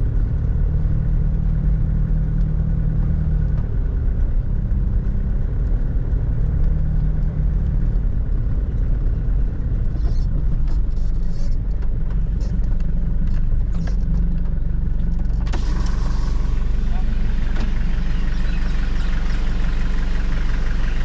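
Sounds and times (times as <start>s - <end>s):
diesel engine rumbling: 0.0s - 21.0s
road noise: 0.0s - 21.0s.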